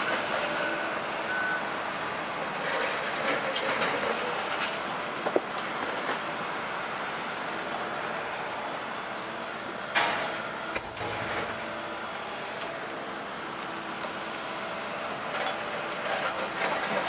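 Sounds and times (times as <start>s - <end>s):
heavy construction machinery running: 0.0s - 17.0s.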